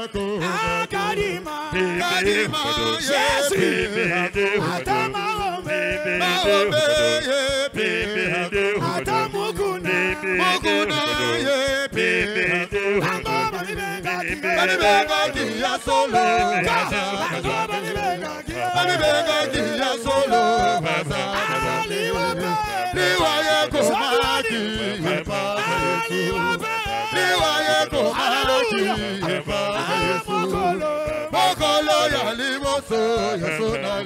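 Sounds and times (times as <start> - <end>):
backing singers: 0.0 - 34.0
man singing lead: 0.0 - 34.0.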